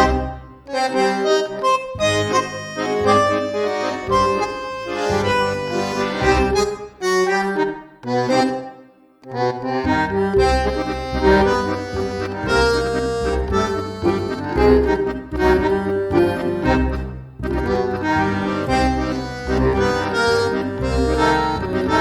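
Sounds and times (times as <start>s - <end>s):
background music melody with bass: 0.0s - 8.6s, 9.3s - 22.0s.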